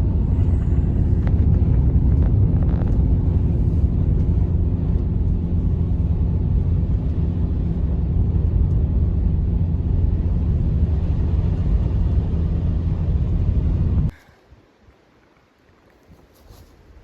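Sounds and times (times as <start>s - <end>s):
low rumble: 0.0s - 14.2s
faint hum: 0.0s - 15.2s.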